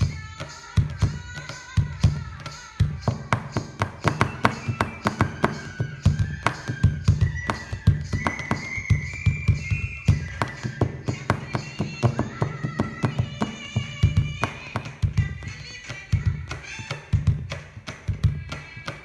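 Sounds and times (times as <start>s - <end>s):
hands drumming on a tabletop: 0.0s - 19.0s.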